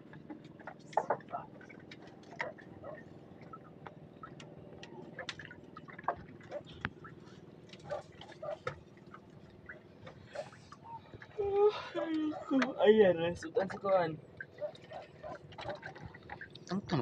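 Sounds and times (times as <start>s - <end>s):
water dripping and splashing: 0.0s - 12.8s, 13.5s - 17.0s.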